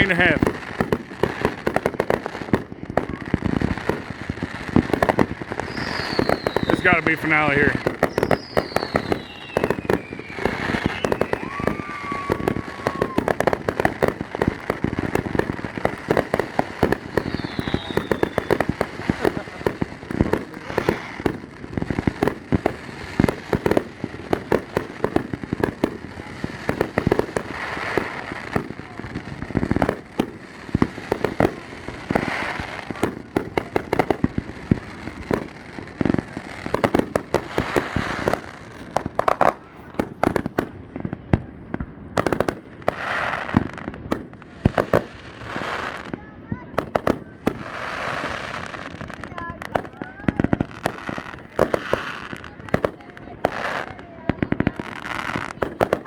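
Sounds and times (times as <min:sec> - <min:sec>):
fireworks bangs: 0:00.0 - 0:56.0
fireworks crackling: 0:00.0 - 0:56.0.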